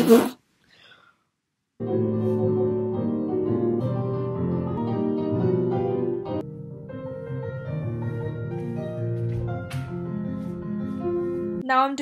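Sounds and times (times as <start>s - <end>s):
piano notes and chords: 1.8s - 11.6s.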